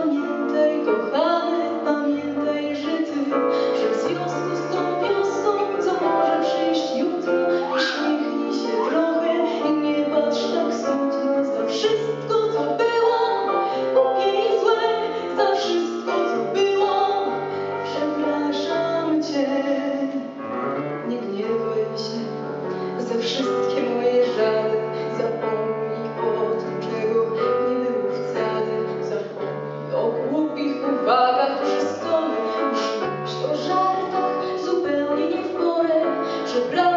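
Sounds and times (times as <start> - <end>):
piano accompaniment: 0.0 - 36.9
woman singing: 0.0 - 36.9.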